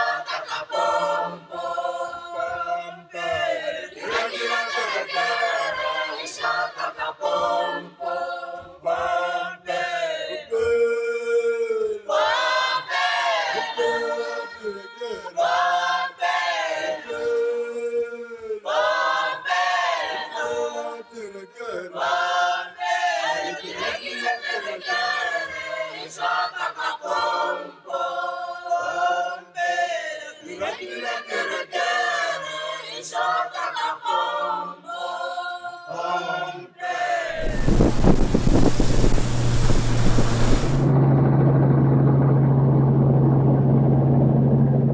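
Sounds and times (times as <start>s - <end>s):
group singing without instruments: 0.0s - 41.0s.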